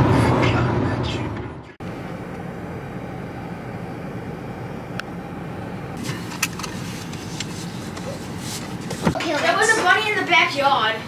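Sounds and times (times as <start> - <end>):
car engine rumble: 0.0 - 9.2.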